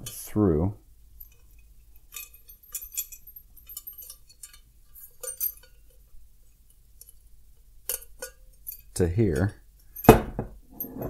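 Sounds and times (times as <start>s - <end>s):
light metallic clinks and taps: 1.2s - 7.2s, 7.8s - 11.0s.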